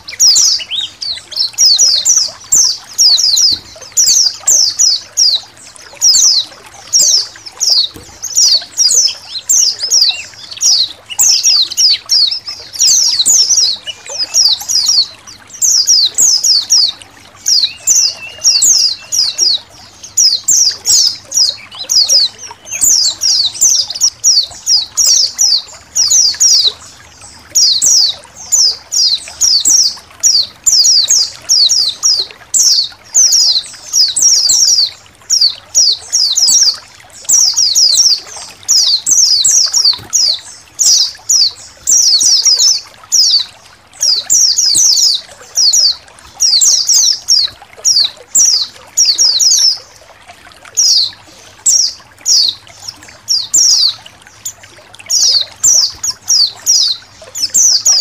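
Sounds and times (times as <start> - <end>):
birds chirping and twittering: 0.0 - 58.0
faint trickling water: 0.0 - 58.0.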